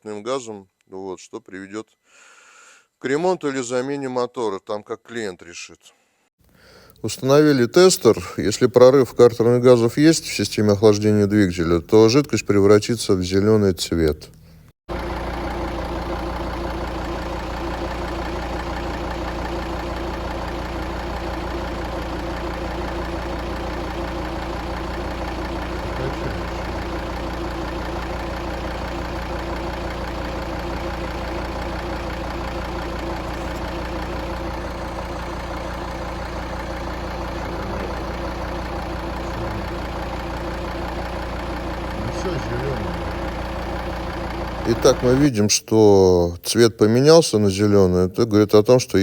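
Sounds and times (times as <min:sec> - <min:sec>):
diesel engine idling: 0:06.5 - 0:46.1.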